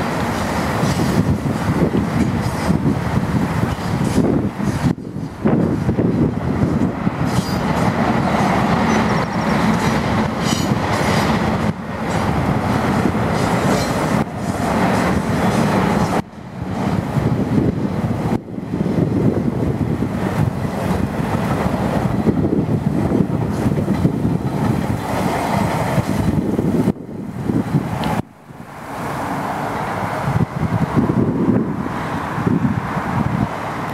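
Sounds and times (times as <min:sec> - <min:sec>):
train wheels rumbling and clattering: 0:00.0 - 0:33.9.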